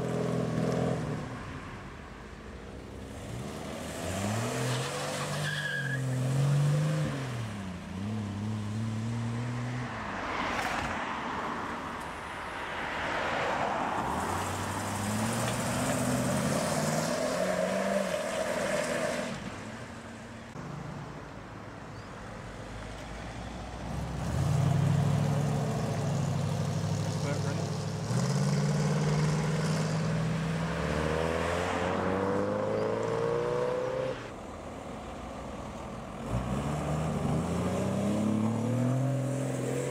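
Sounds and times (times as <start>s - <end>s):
road and tyre noise: 0.0s - 39.9s
car engines pulling away: 2.4s - 11.0s, 14.0s - 21.0s, 22.0s - 39.9s.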